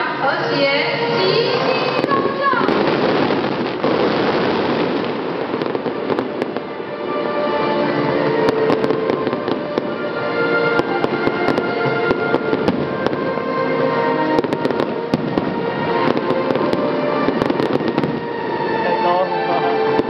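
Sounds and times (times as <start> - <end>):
music playing: 0.0 - 20.0
fireworks cracking and banging: 0.2 - 20.0.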